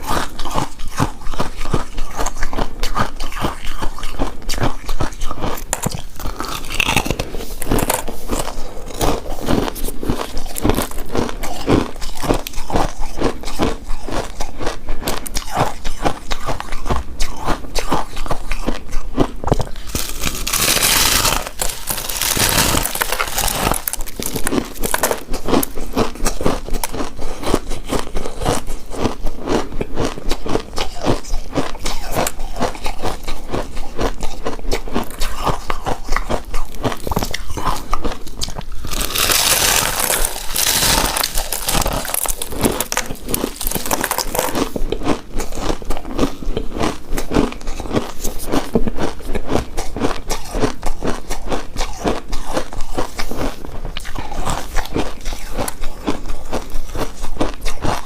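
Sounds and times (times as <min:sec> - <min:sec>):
wet chewing and biting: 0:00.0 - 0:58.0.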